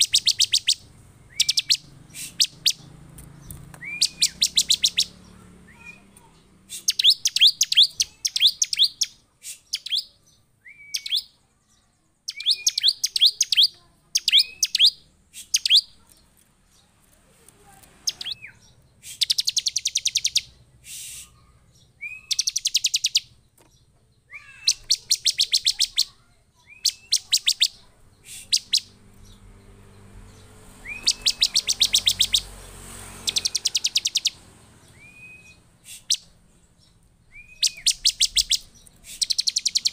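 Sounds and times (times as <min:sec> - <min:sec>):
bird chattering trills: 0:00.0 - 0:11.3, 0:12.3 - 0:16.2, 0:18.0 - 0:23.4, 0:24.3 - 0:29.6, 0:30.2 - 0:39.9.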